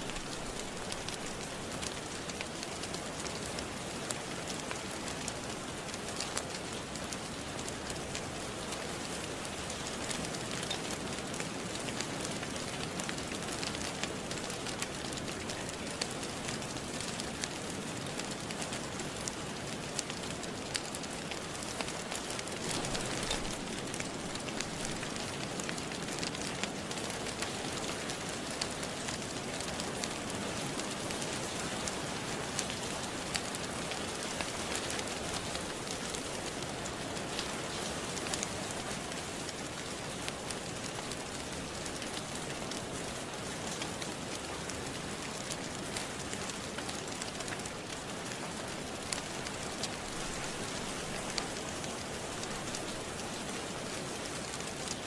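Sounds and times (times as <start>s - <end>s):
fire crackling: 0.0s - 55.0s
steady rain hissing: 0.0s - 55.0s.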